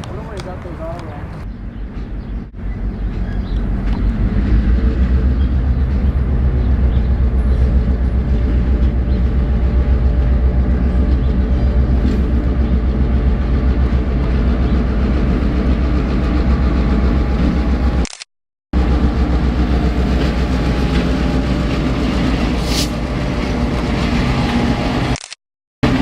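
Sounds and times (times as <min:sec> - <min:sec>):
diesel locomotive engine droning: 0:00.0 - 0:18.0, 0:18.8 - 0:25.2.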